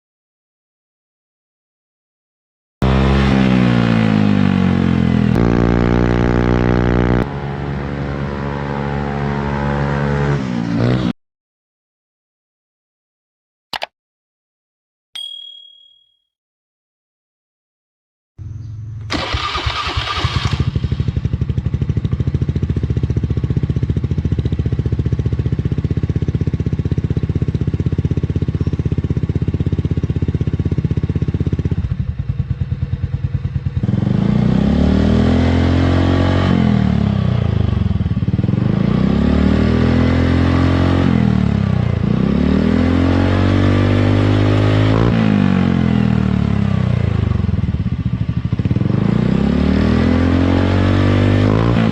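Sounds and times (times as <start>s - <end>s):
scooter engine idling and revving: 2.8s - 11.2s, 18.4s - 51.9s.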